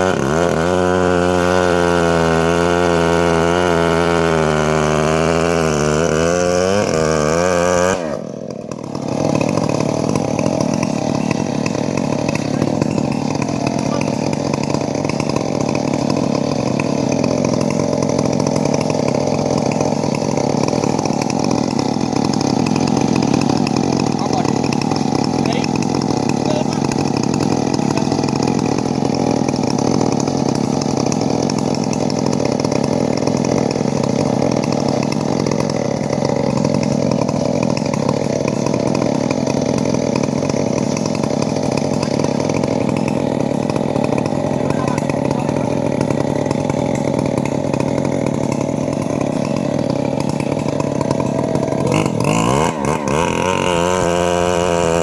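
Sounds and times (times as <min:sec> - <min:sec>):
saw engine cutting a log: 0:00.0 - 0:55.0.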